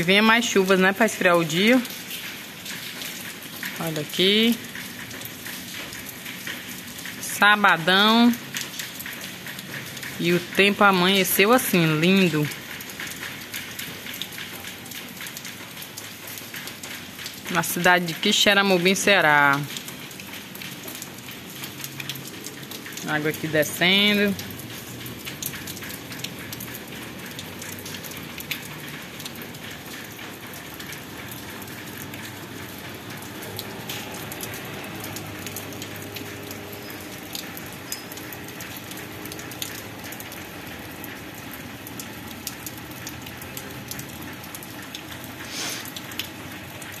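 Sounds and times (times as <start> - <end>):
light rain on stone pavement: 0.0 - 47.0
rainwater running over ground: 0.0 - 47.0.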